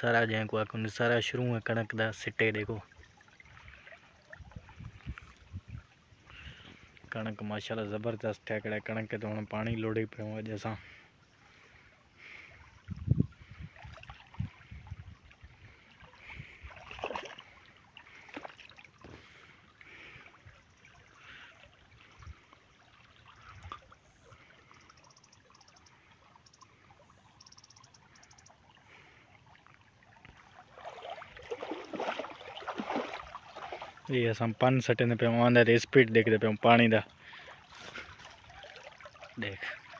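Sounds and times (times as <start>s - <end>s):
water flowing in a channel: 0.0s - 39.9s.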